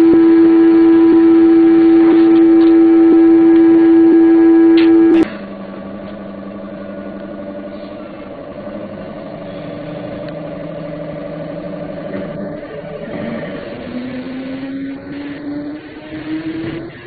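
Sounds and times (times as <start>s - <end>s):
train motor and gear hum: 0.0s - 17.0s.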